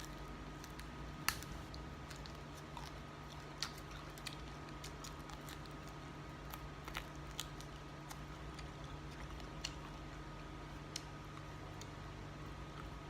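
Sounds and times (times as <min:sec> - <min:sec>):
chewing clicks and smacks: 0:00.0 - 0:13.0.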